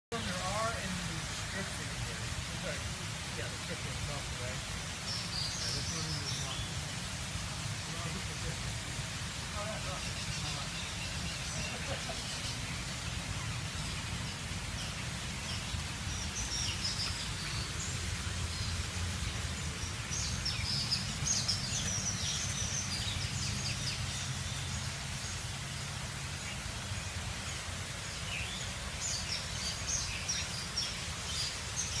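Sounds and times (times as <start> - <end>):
small birds chirping: 0.1 - 32.0.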